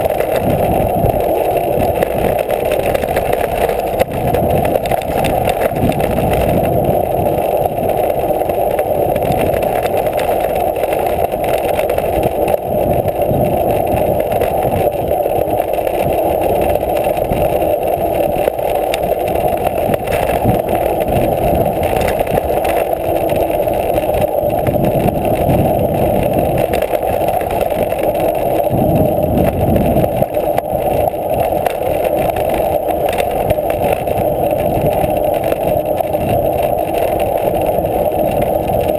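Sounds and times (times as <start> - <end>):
bike bumps and rattles: 0.0 - 38.9
wind and tyre rushing: 0.0 - 38.9.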